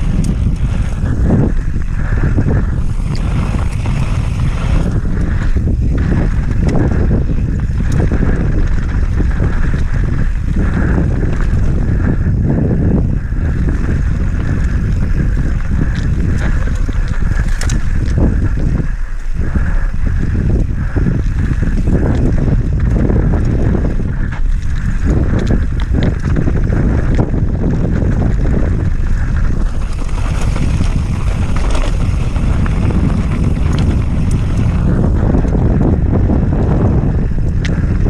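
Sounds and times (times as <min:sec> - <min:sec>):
bike rattling and knocking: 0:00.0 - 0:38.0
tyres rumbling on dirt: 0:00.0 - 0:38.0
wind buffeting microphone: 0:00.0 - 0:38.0.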